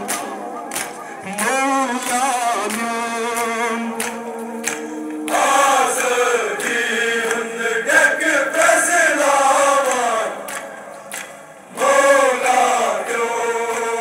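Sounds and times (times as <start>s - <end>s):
men chanting in unison: 1.0s - 10.9s, 11.7s - 14.0s.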